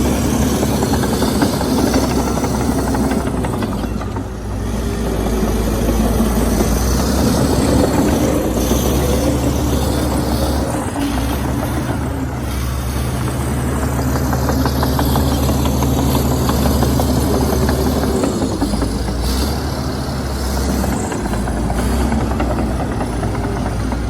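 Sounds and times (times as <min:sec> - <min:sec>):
diesel machinery engine running: 0:00.0 - 0:24.0
rapid clicking and clatter: 0:00.0 - 0:24.0.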